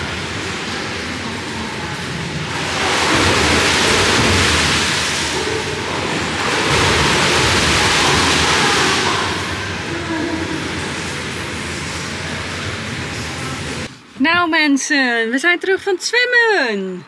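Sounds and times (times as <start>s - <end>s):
water rushing and splashing: 0.0s - 13.9s.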